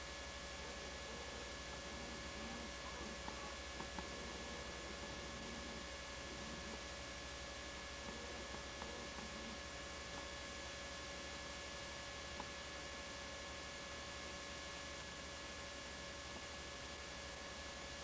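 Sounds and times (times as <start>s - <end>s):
electrical hum: 0.0s - 18.0s
faint whine tones: 0.0s - 18.0s
tape hiss: 0.0s - 18.0s.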